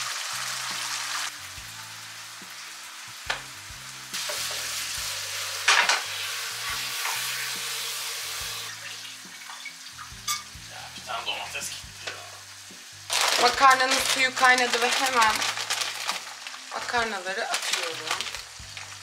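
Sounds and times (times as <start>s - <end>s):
chicken sizzling in frying pan: 0.0s - 19.0s.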